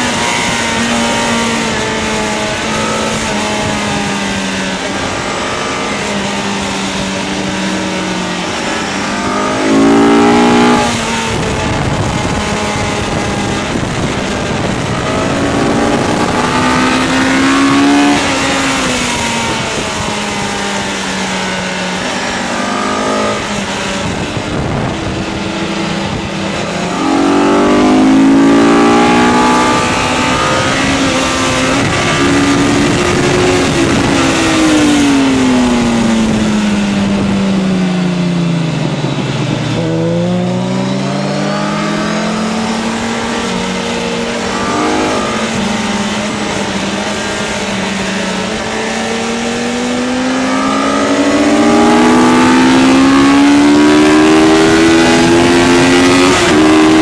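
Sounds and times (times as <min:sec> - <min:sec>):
motorcycle engine: 0:00.0 - 0:57.0
wind rush: 0:00.0 - 0:57.0.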